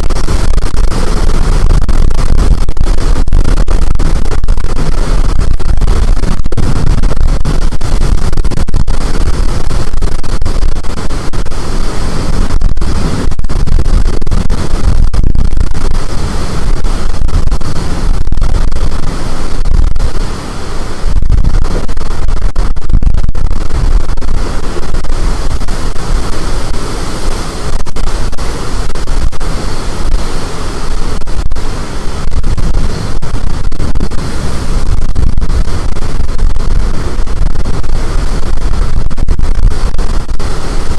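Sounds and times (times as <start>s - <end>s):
storm wind blasting microphone: 0.0s - 40.9s.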